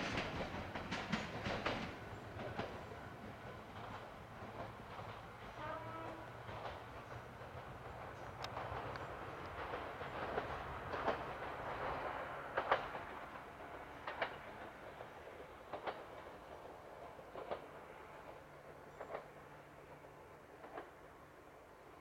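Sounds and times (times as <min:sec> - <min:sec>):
train wheels clacking over joints: 0:00.0 - 0:21.1
train running rumble: 0:00.0 - 0:22.0.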